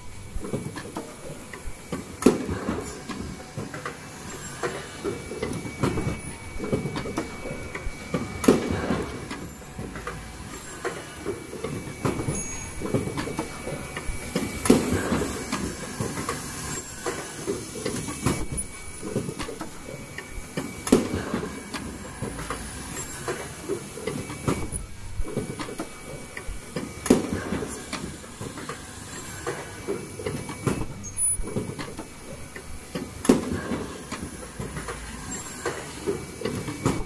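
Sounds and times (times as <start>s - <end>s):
machine mechanical clatter: 0.0s - 37.0s.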